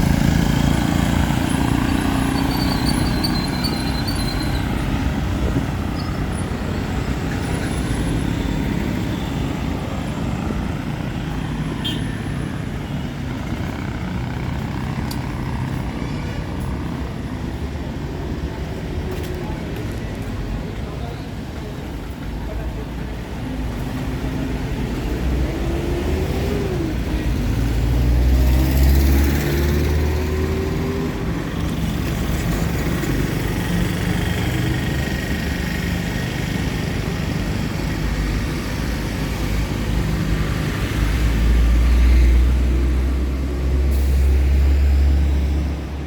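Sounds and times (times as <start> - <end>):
vehicles passing with engines rumbling: 0.0 - 46.0.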